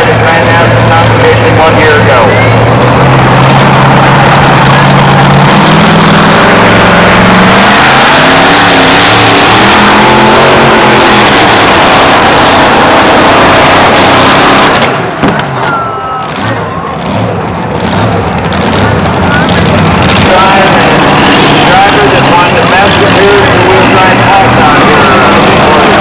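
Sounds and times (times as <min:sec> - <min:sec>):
pulling truck engine at full throttle: 0:00.0 - 0:26.0.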